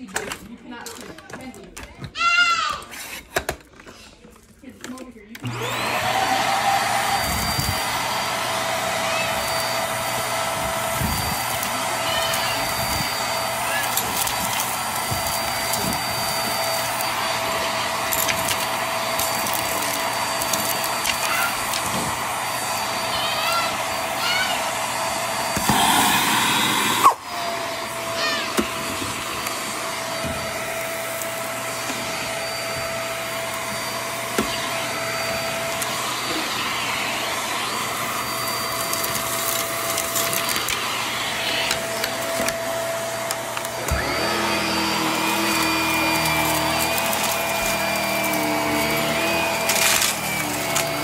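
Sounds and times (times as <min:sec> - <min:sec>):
stick vacuum motor whine: 0:04.8 - 0:51.0.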